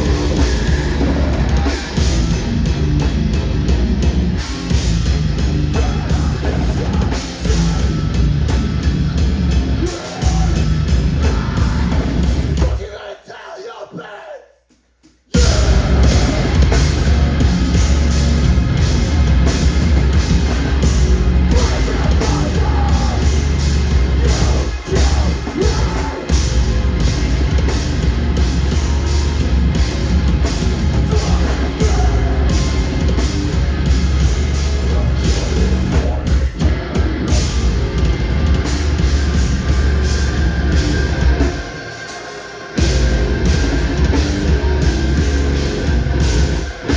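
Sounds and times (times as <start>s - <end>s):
heavy metal band playing: 0.0s - 13.0s, 15.3s - 46.9s.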